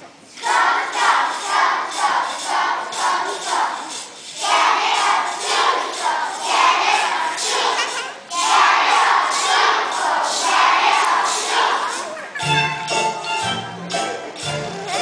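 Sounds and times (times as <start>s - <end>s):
children singing together: 0.3s - 13.1s.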